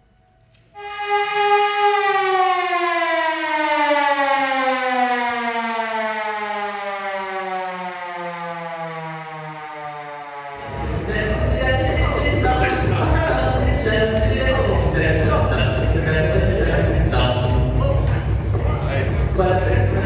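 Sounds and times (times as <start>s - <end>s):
siren winding down: 0.7s - 18.6s.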